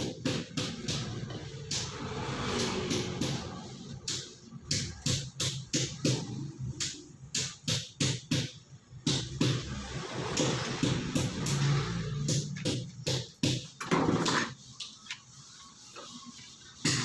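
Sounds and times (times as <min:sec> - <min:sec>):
electronic drum beat music: 0:00.0 - 0:17.0.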